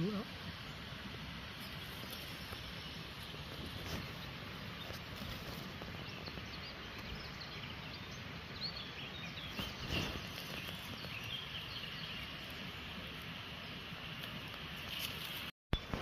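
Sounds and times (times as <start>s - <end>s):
background hiss and rumble: 0.0s - 16.0s
birds chirping: 0.0s - 16.0s.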